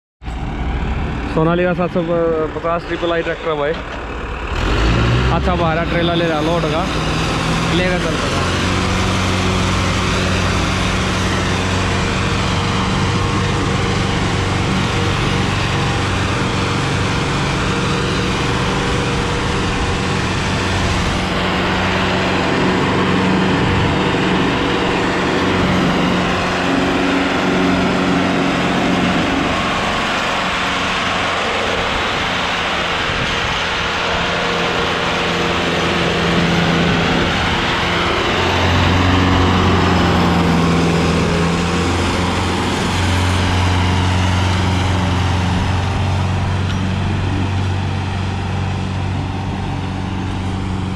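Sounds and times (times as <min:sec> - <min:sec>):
tractor diesel engine under load: 0:00.2 - 0:50.9.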